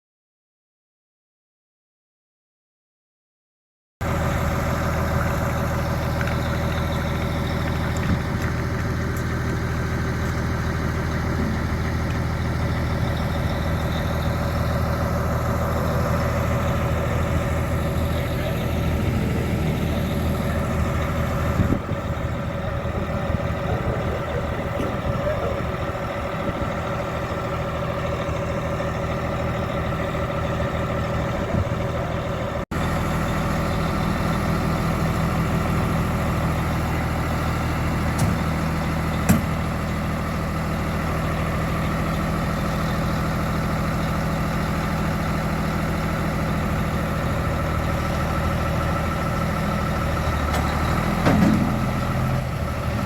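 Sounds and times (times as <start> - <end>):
vehicle engine humming: 4.0 - 53.0.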